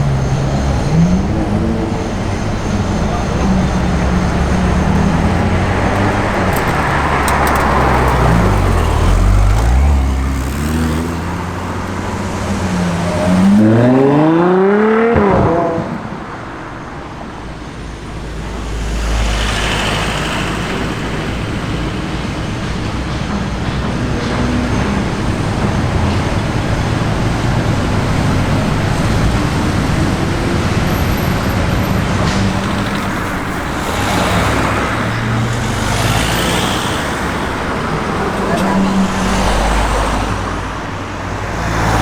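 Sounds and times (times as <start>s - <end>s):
cars driving past: 0.0s - 42.0s.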